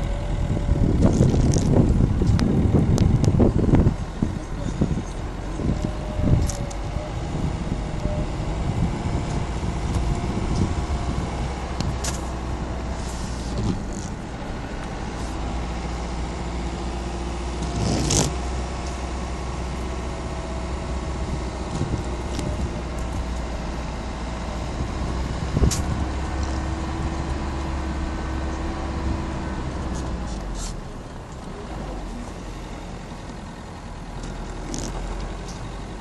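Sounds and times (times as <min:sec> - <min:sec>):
car engine rumble: 0:00.0 - 0:36.0.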